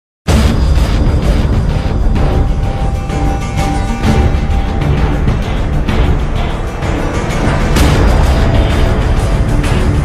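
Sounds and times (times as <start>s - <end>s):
cinematic music with heavy bass: 0.3s - 10.0s.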